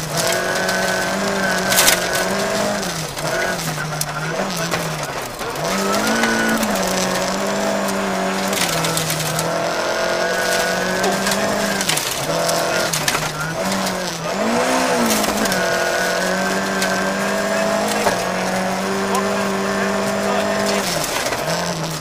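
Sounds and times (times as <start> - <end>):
car engine at full throttle: 0.0 - 22.0
gravel clattering against underbody: 0.0 - 22.0.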